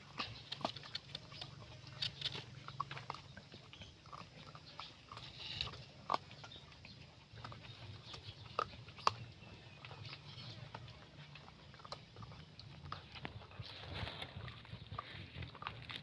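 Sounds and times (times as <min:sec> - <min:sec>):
dog chewing and smacking: 0:00.0 - 0:16.0.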